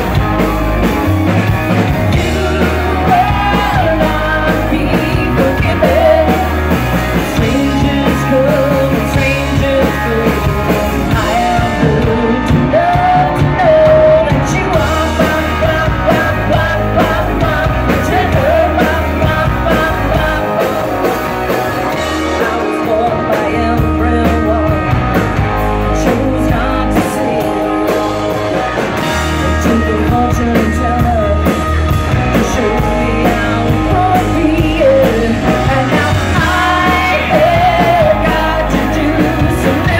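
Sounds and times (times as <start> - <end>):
live rock band playing: 0.0 - 39.9
woman singing lead vocal: 2.1 - 28.6, 29.3 - 39.9.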